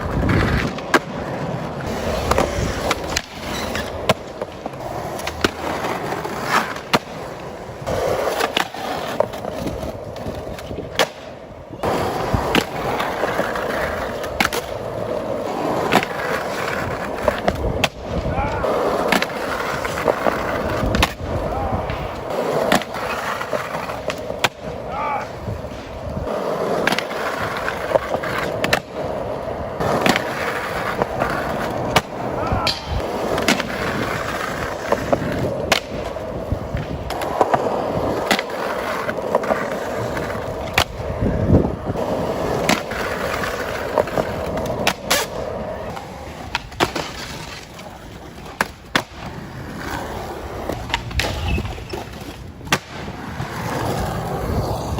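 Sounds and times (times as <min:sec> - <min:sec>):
skateboard clacks: 0:00.0 - 0:54.9
skateboard wheels rolling: 0:00.0 - 0:54.9.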